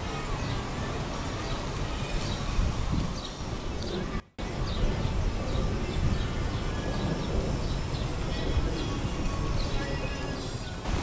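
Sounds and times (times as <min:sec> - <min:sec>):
wind buffeting microphone: 0:00.0 - 0:11.0
small birds chirping: 0:00.2 - 0:11.0.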